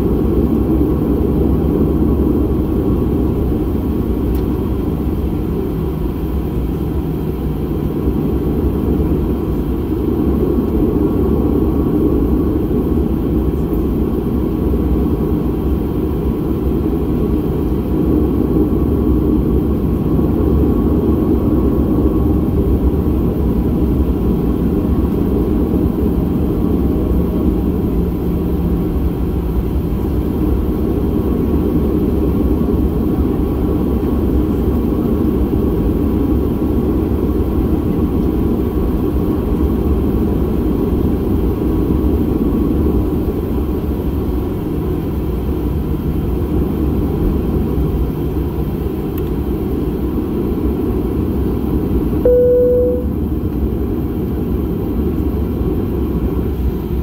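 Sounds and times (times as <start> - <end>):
faint steady whines: 0.0 - 57.0
jet engine cabin rumble: 0.0 - 57.0.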